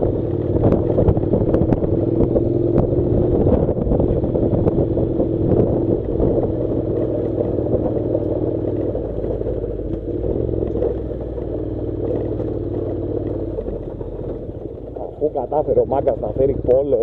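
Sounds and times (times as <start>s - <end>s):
motorcycle engine running: 0.0s - 17.0s
stones clattering under tyres: 0.0s - 17.0s.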